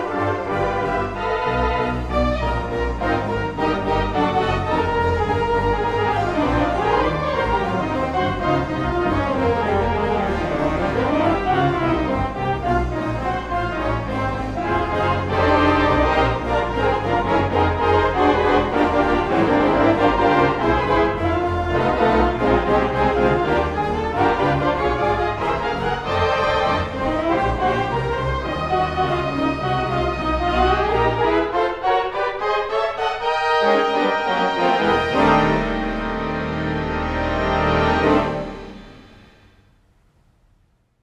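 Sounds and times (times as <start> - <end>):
pipe organ playing jazz: 0.0 - 39.4.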